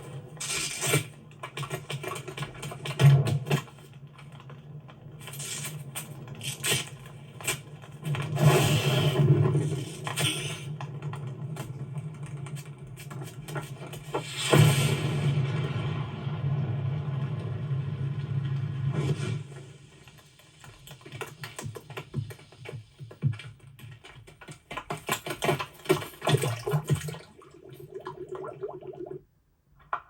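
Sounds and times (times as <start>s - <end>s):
electric crackling clicks: 0.3s - 26.9s.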